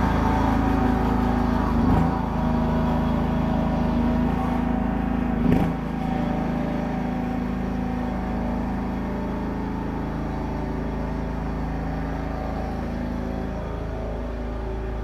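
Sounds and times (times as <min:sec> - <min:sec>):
riding lawn tractor engine: 0:00.0 - 0:15.0.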